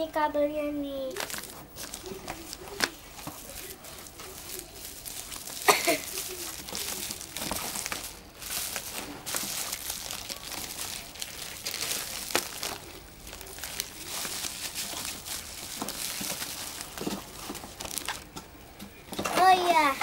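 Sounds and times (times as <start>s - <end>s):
plastic bags crinkling: 1.1s - 20.0s.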